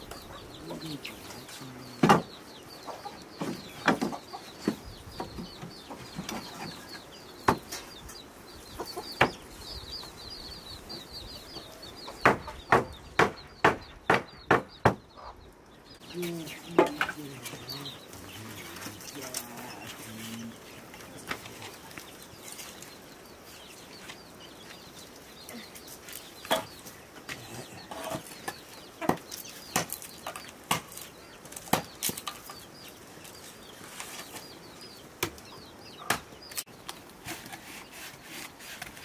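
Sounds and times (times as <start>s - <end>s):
faint bird chirping: 0.0s - 39.0s.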